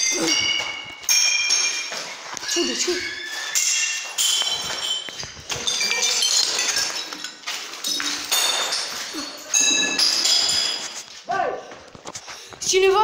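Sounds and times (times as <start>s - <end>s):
high glass ringing: 0.0s - 11.1s
broken glass clinking: 0.0s - 11.2s.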